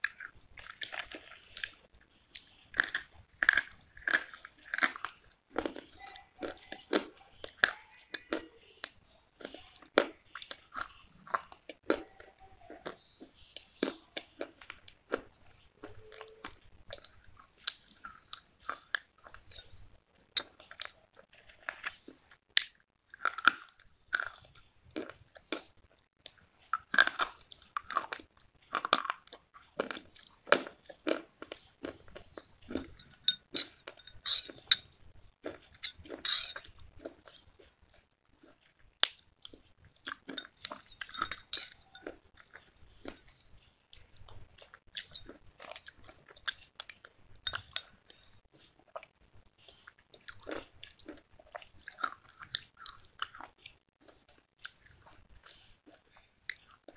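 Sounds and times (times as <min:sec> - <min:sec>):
crunching chewing: 0:00.0 - 0:56.9.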